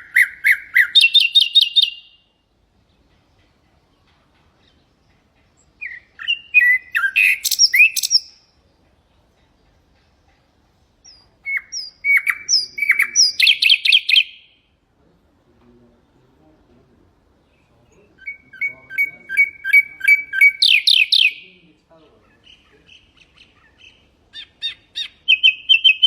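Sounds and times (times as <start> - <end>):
nightingale singing: 0.0 - 14.9, 17.3 - 26.0.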